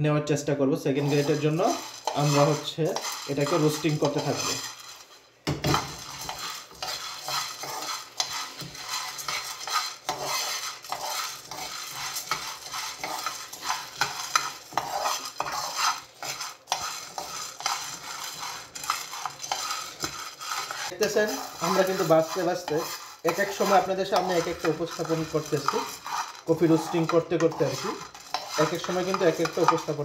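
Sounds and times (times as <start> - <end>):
spoon scraping a pan: 0.9 - 30.0
coffee beans rattling: 1.0 - 30.0.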